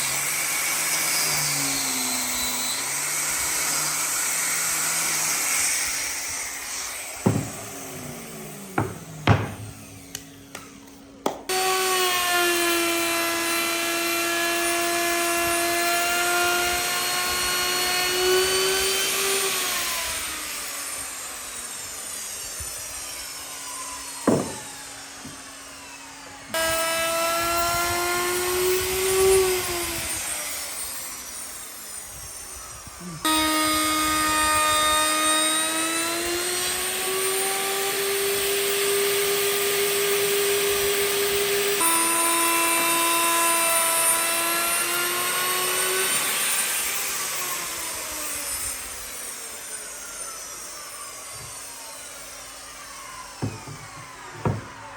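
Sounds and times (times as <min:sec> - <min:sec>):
electric power tool whining: 0:00.0 - 0:54.9.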